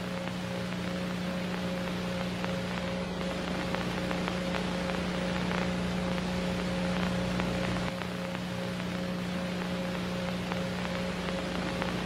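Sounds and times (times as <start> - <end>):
faint clicks and crackles: 0.0 - 12.0
low electrical hum: 0.0 - 12.0
static hiss: 0.0 - 12.0.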